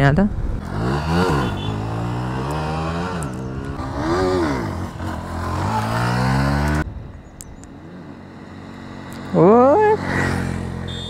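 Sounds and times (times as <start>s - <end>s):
motorcycle engine revving: 0.4s - 11.0s.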